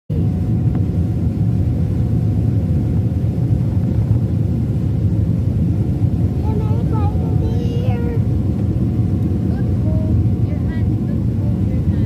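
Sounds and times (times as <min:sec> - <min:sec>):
airplane landing rumble: 0:00.1 - 0:12.0
faint steady whine: 0:00.1 - 0:12.0.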